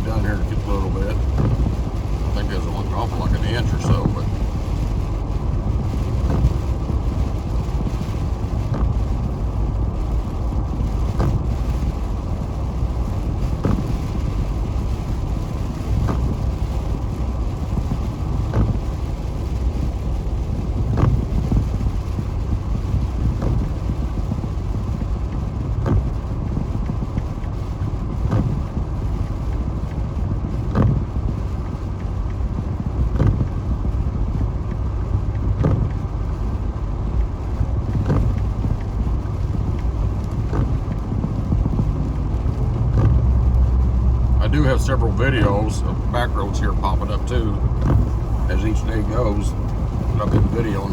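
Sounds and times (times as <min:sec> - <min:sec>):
car road and engine rumble: 0:00.0 - 0:50.9
windshield wiper clicks: 0:00.1 - 0:50.9.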